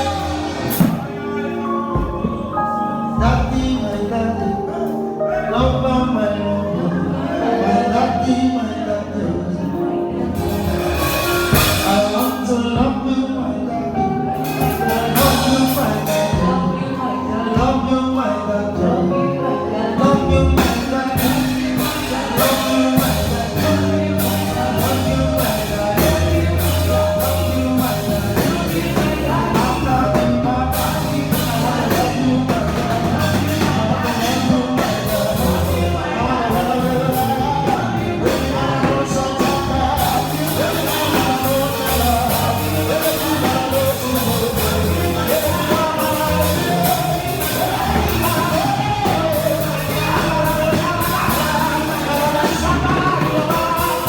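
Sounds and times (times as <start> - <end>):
drum kit beat: 0.0 - 4.1, 9.8 - 13.3, 14.2 - 18.1, 20.0 - 54.0
gospel band playing: 0.0 - 54.0
person singing: 0.0 - 54.0.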